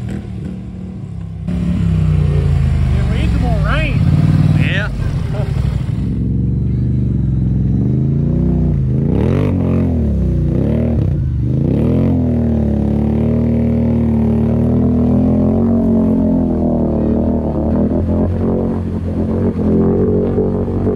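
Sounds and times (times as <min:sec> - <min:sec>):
quad bike engine revving: 0:00.0 - 0:20.9.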